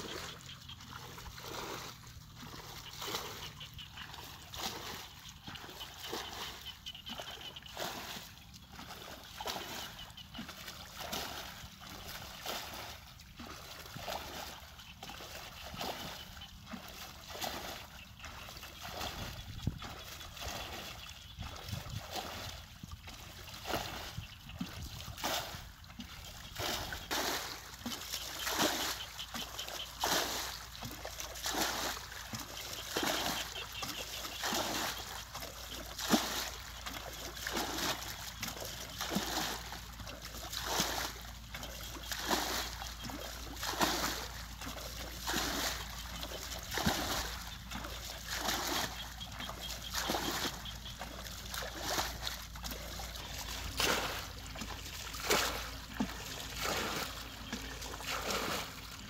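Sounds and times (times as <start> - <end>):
bucket scooping and splashing water: 0.0 - 59.0.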